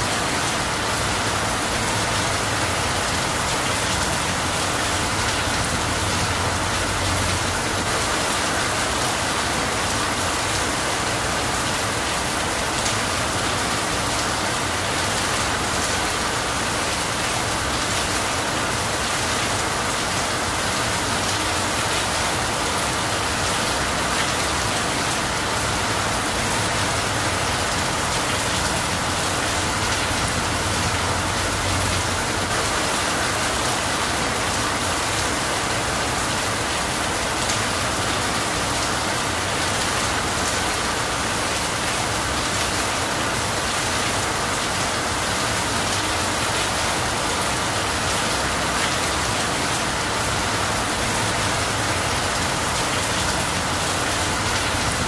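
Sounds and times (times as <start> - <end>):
rain falling on trees: 0.0 - 55.0
water streaming off eaves: 0.0 - 55.0.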